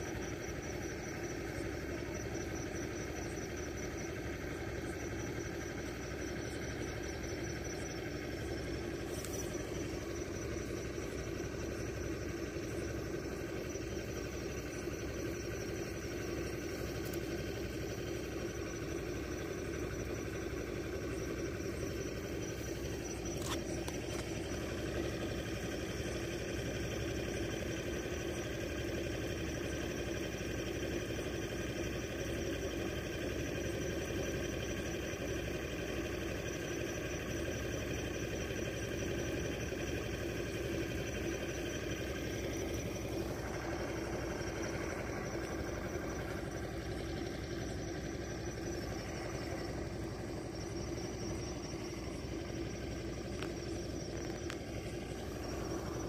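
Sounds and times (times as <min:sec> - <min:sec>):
machine hum: 0:00.0 - 0:29.1, 0:39.6 - 0:56.0.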